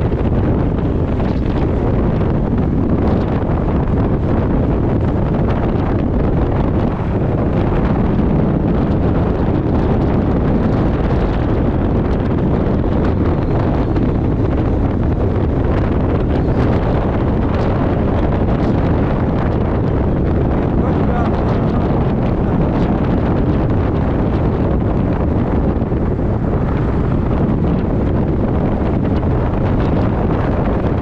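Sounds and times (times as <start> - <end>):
road noise: 0.0 - 31.0
wind blasting across microphone: 0.0 - 31.0.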